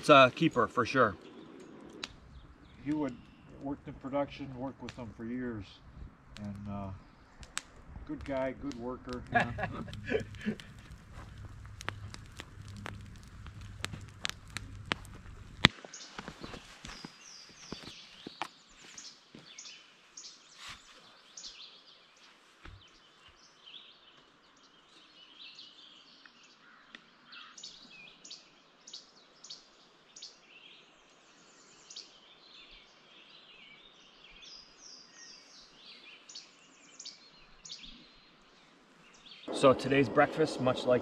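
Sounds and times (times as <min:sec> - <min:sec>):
faint outdoor hiss: 0:00.0 - 0:41.0
songbirds singing: 0:00.0 - 0:41.0.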